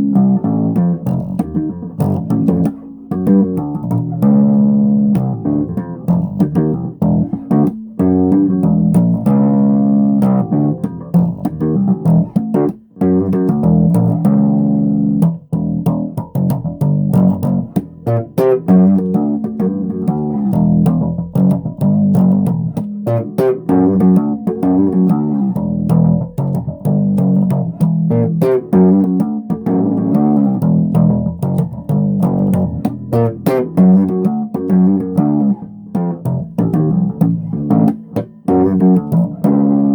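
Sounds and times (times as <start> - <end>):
bass guitar plucked notes: 0.0 - 39.9.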